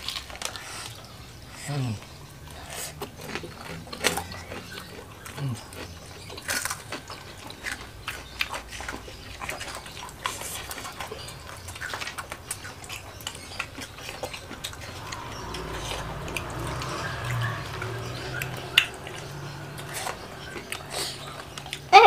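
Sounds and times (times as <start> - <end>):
crunchy chewing: 0.0 - 22.0
lip smacks: 2.5 - 21.9.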